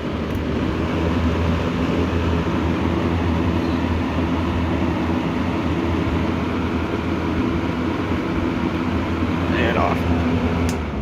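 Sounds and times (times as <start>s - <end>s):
box fan rushing air: 0.0s - 11.0s
low motor hum: 0.0s - 11.0s.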